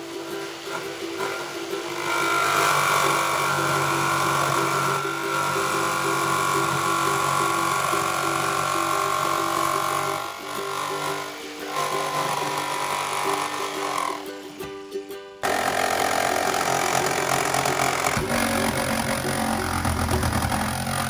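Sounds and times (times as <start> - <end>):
electric power saw cutting metal: 0.0 - 14.6, 15.4 - 21.0.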